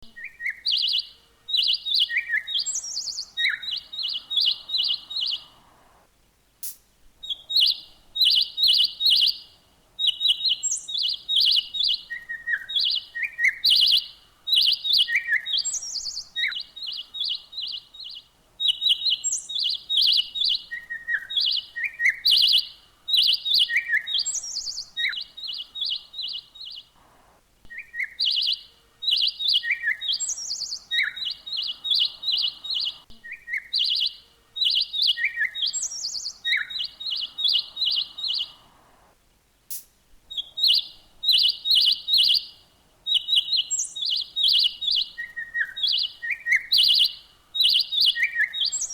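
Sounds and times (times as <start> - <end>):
songbird chirping: 0.0 - 48.9.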